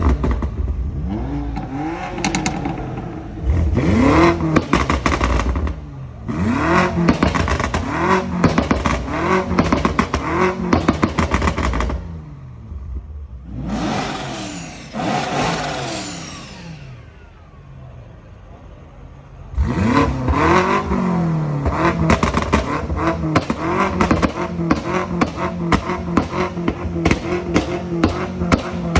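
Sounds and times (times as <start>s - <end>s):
car engines revving: 0.0s - 28.9s
exhaust crackling: 0.0s - 28.9s.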